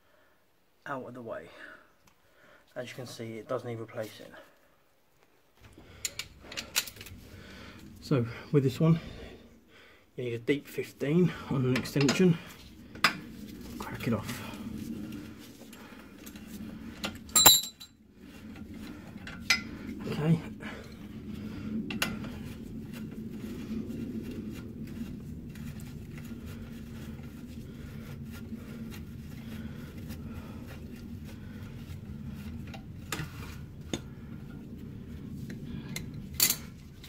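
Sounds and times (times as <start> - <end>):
steady low hum: 5.6 - 37.0.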